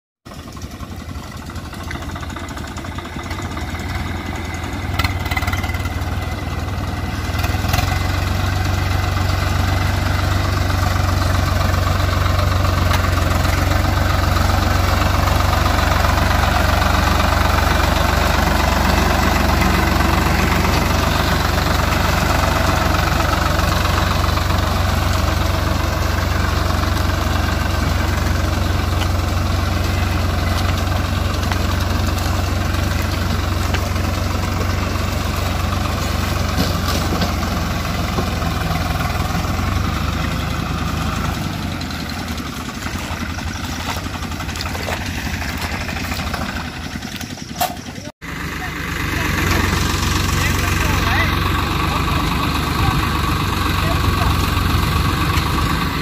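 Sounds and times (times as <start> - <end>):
diesel tractor engine running: 0.2 - 56.0.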